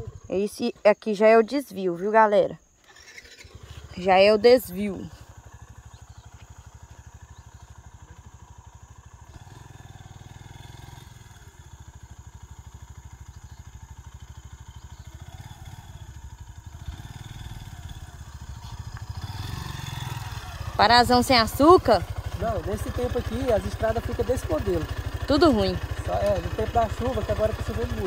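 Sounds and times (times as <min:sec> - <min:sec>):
motorcycle engine running: 0:00.0 - 0:00.8, 0:03.4 - 0:28.0.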